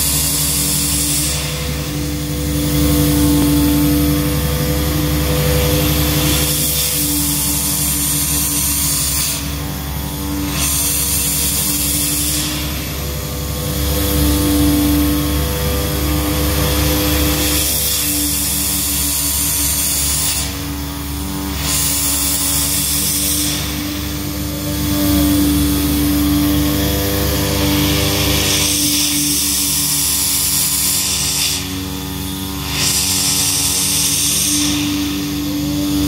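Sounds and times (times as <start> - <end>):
cutting machine humming with hiss: 0.0 - 36.0.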